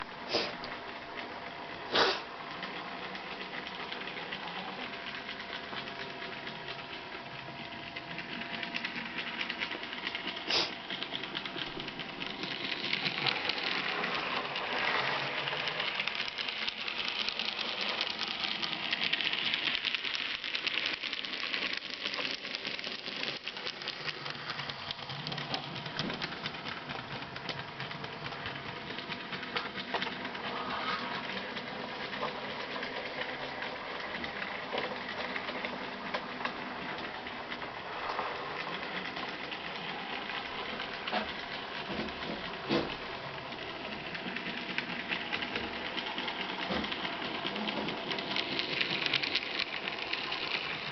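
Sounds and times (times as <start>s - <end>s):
wheels clicking over track: 0.0s - 50.9s
model train motor whirring: 0.3s - 50.9s.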